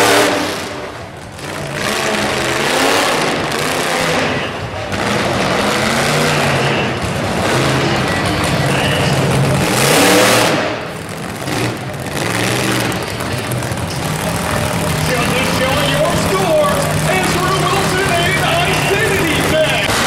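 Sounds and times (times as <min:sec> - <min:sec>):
monster truck engine revving: 0:00.0 - 0:20.0
truck crushing junk cars: 0:00.0 - 0:20.0.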